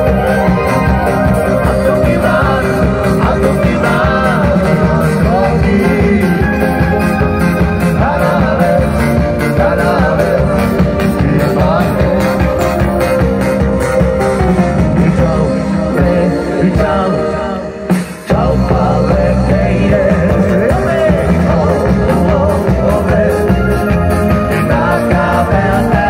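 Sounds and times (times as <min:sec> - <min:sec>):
upbeat band music: 0:00.0 - 0:26.0.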